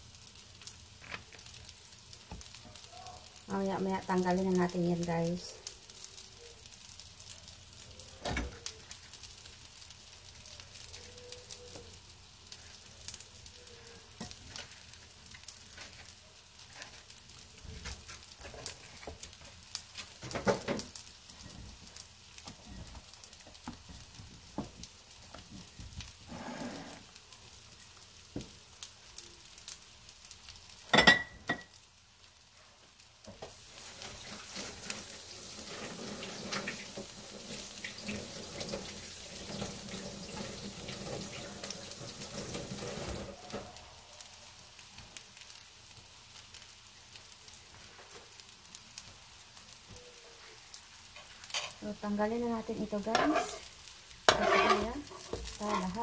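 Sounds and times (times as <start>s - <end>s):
pancakes frying in oil: 0.0s - 56.0s.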